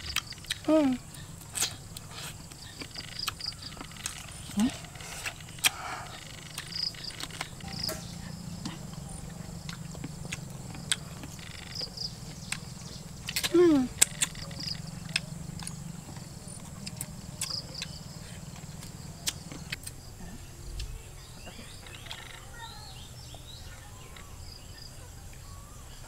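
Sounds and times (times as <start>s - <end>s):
faint high insect drone: 0.0s - 26.0s
bird chirps: 2.6s - 26.0s.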